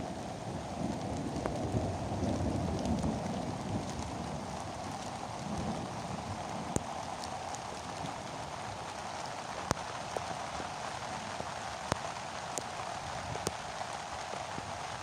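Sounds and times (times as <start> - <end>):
rain hiss: 0.0 - 15.0
single raindrops hitting nearby: 0.8 - 15.0.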